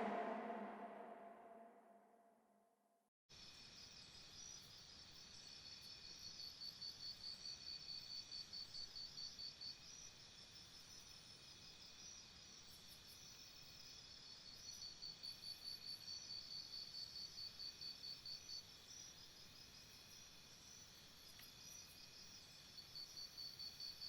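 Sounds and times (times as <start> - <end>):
crickets chirping: 4.0 - 24.0.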